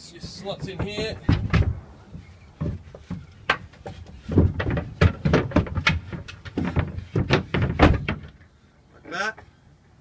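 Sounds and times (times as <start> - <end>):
wooden boards knocking and scraping: 0.0 - 8.5.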